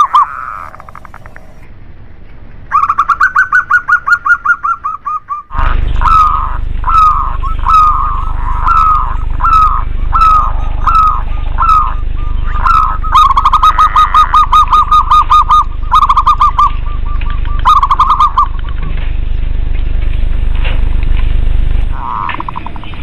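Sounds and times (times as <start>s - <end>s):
doves cooing: 0.0s - 1.7s, 2.7s - 20.8s, 21.9s - 23.0s
steady low hum: 0.0s - 23.0s.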